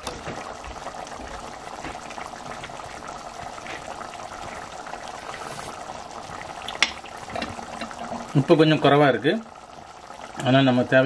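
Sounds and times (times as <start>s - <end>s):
pot bubbling and popping: 0.0s - 11.0s.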